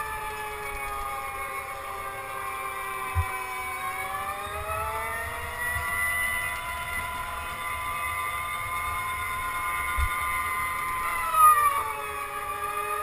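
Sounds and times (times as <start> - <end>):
go-kart motor whining: 0.0 - 13.0.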